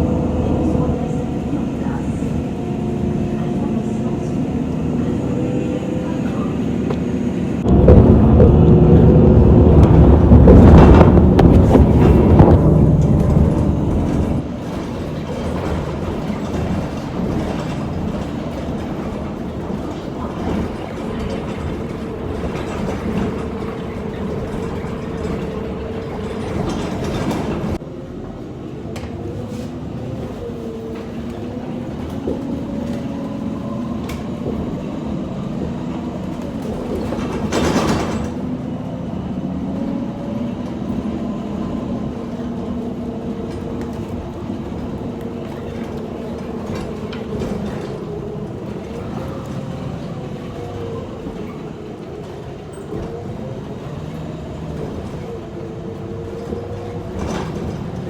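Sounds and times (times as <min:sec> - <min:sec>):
transit vehicle rumble: 0:00.0 - 0:58.0.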